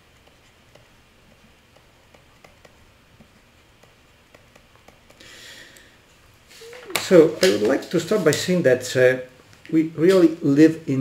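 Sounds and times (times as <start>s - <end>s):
low room hiss: 0.0s - 11.0s.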